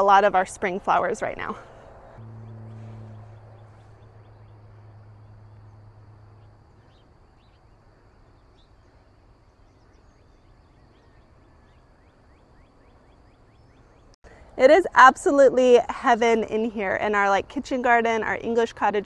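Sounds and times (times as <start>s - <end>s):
low steady hum: 0.0s - 16.3s.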